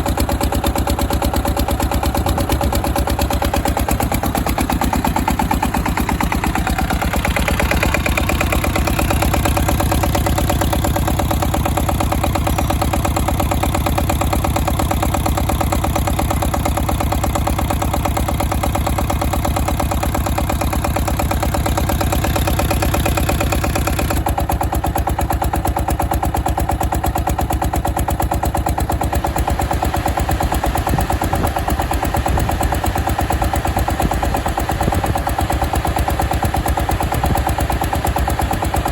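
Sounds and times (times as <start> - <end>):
diesel generator engine running: 0.0 - 38.9.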